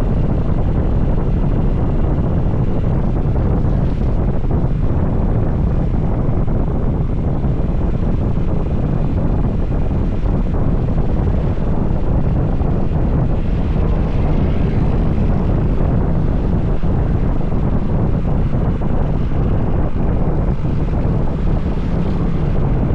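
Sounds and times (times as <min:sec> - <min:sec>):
road noise: 0:00.0 - 0:22.9
wind rumble on microphone: 0:00.0 - 0:22.9
motorcycle engine: 0:00.1 - 0:22.9.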